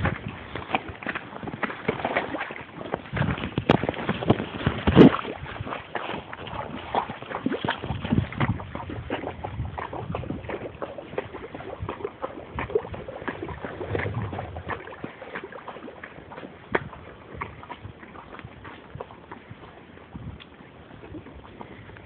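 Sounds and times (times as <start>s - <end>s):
horse hooves walking: 0.0s - 22.0s.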